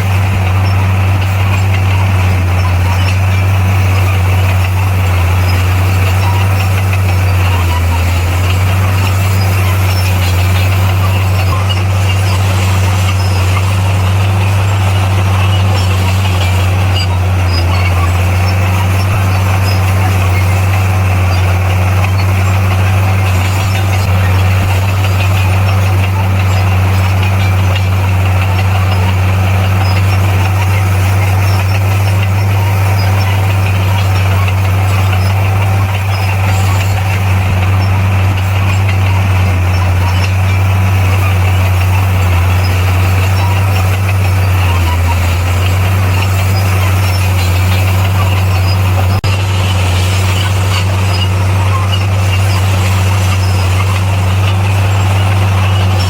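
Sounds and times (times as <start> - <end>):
bulldozer diesel engine humming: 0.0 - 56.0.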